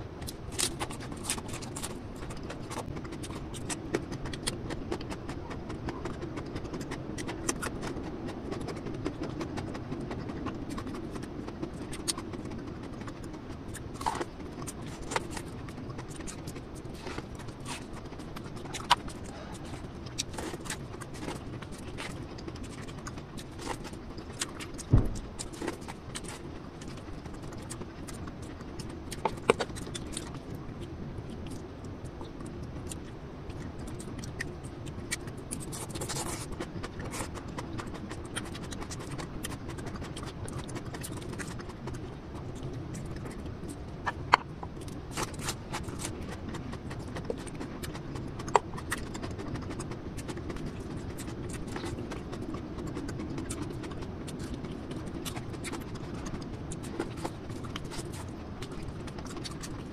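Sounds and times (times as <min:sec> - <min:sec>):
low background noise: 0:00.0 - 0:59.9
chewing with wet mouth clicks: 0:00.2 - 0:59.9.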